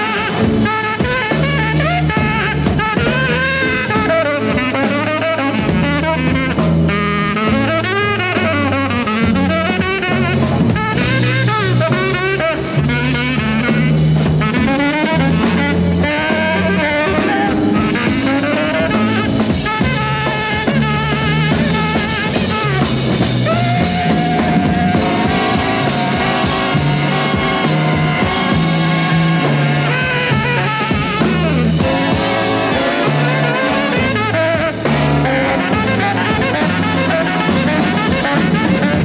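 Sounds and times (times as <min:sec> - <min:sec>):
swing big band playing: 0:00.0 - 0:39.0
tenor saxophone solo: 0:00.0 - 0:39.0.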